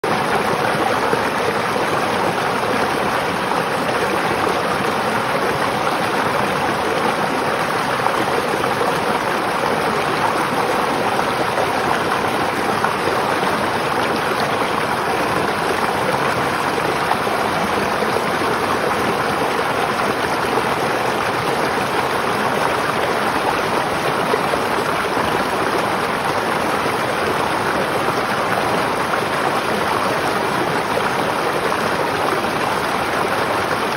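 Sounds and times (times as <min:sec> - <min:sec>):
river water flowing over stones: 0:00.0 - 0:33.9.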